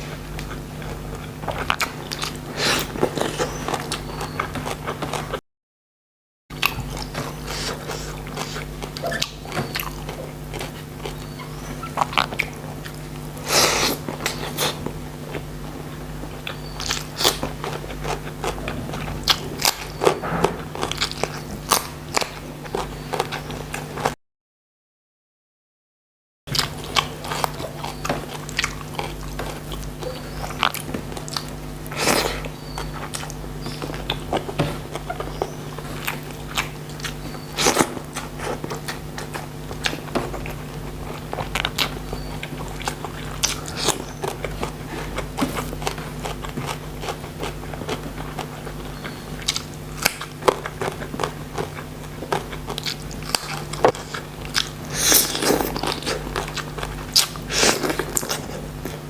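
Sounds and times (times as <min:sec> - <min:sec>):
person chewing and crunching: 0:00.0 - 0:05.4, 0:06.5 - 0:24.2, 0:26.5 - 0:59.0.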